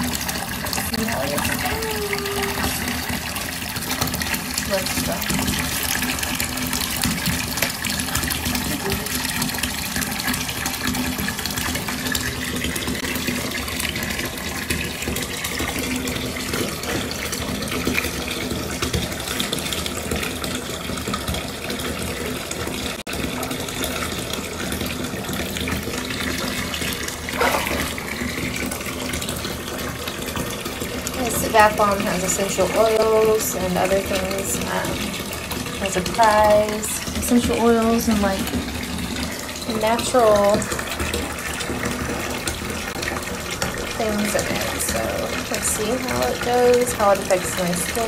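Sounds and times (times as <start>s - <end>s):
bath bomb foaming: 0.0s - 48.0s
water running into bathtub: 0.0s - 48.0s.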